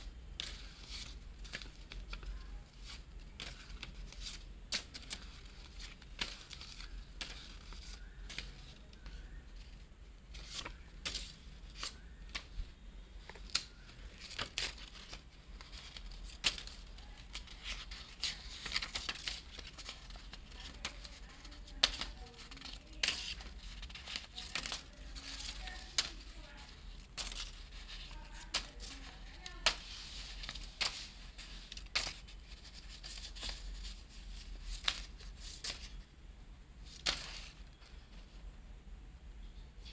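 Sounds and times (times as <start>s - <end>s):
banknotes rustling and crinkling: 0.0s - 36.1s, 36.8s - 38.5s.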